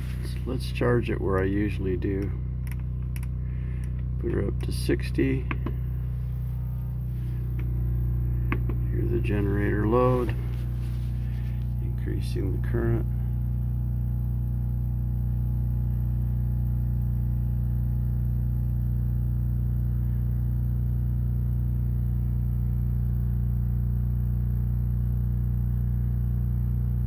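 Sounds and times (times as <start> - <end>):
diesel generator humming: 0.0 - 27.0.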